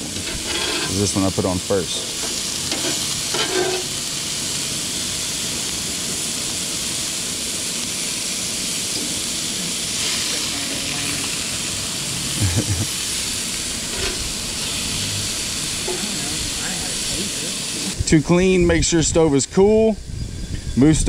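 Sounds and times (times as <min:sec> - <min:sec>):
burger patties sizzling on griddle: 0:00.0 - 0:19.6.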